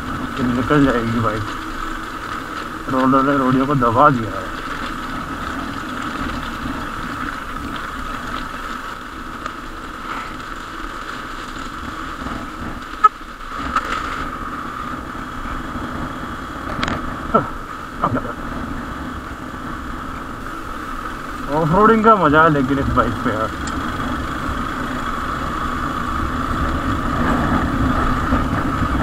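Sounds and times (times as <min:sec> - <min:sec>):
motorcycle engine running: 0:00.0 - 0:29.0
tyres rolling over gravel: 0:00.0 - 0:29.0.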